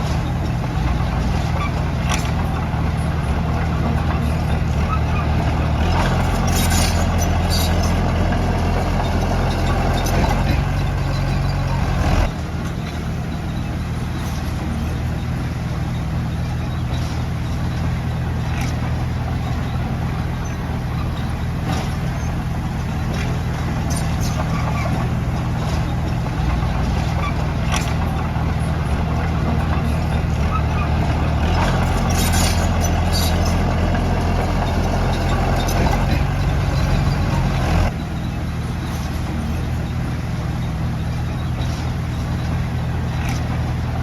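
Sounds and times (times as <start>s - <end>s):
heavy diesel engine running: 0.0s - 44.0s.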